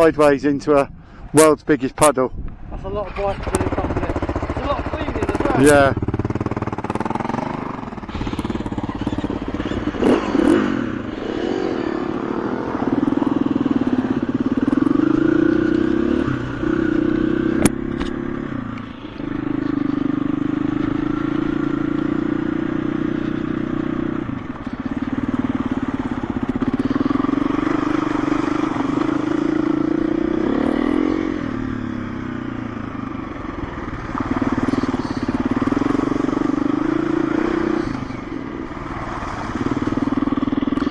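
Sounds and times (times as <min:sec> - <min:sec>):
dirt bike engine running: 0:02.9 - 0:40.9.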